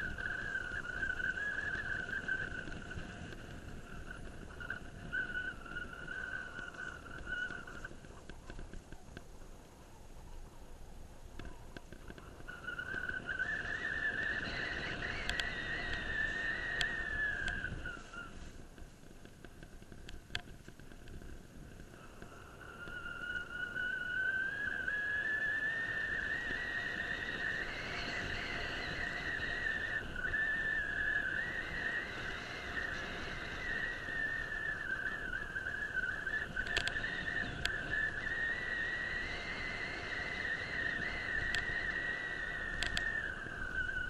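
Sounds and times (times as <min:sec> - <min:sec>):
high whine from bike: 0:00.0 - 0:44.0
sharp ticks from bike: 0:00.0 - 0:44.0.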